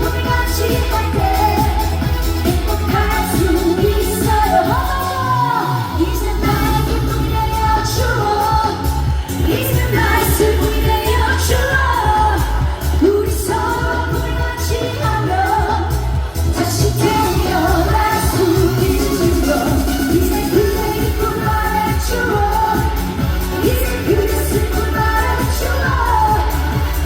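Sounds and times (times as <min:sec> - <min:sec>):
backing track with bass beat: 0:00.0 - 0:27.0
woman singing: 0:00.0 - 0:27.0.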